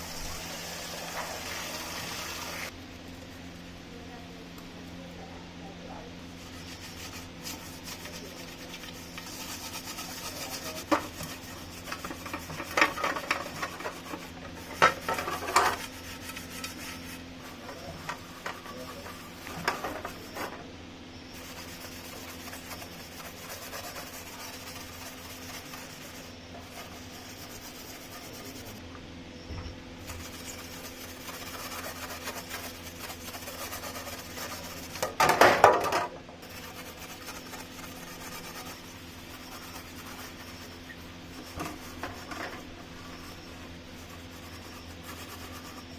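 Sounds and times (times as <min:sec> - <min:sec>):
faint steady hum: 0:00.0 - 0:45.9
hand scraping fan parts: 0:06.2 - 0:28.8, 0:30.0 - 0:45.9.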